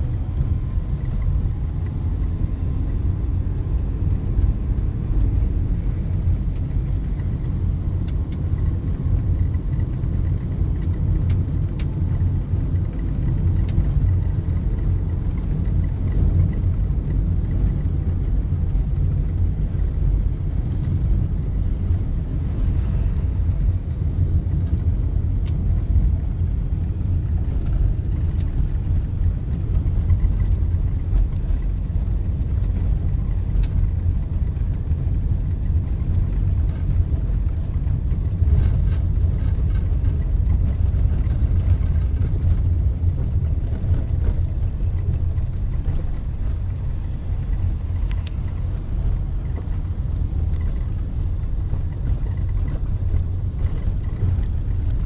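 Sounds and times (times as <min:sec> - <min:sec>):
car driving on dirt road: 0:00.0 - 0:55.0.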